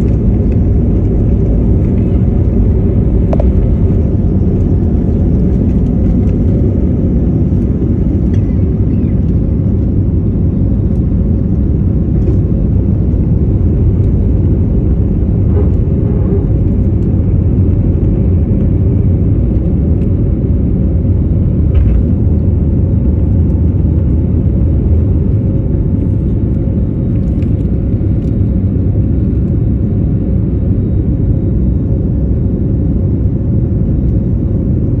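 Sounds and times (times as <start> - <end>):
jet engines rumbling: 0.0 - 35.0.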